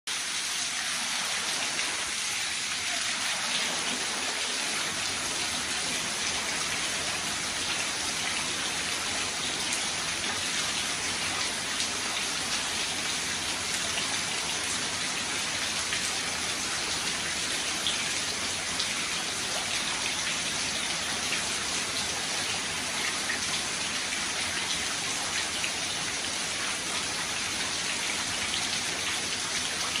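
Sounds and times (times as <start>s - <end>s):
shower water splashing on floor: 0.1s - 30.0s.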